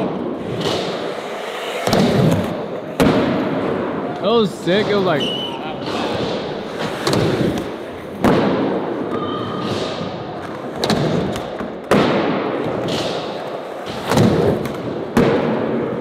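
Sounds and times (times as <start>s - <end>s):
skateboard hitting ground: 0.0s - 4.0s, 5.8s - 16.0s
skateboard rolling noise: 0.0s - 16.0s.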